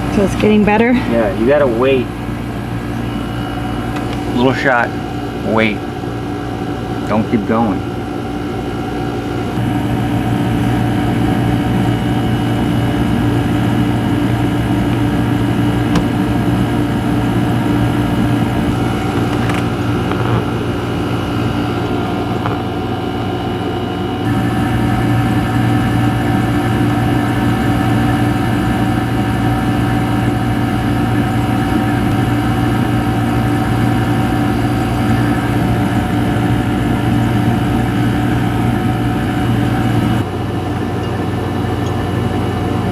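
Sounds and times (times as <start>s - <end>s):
air conditioner hum: 0.0s - 42.9s.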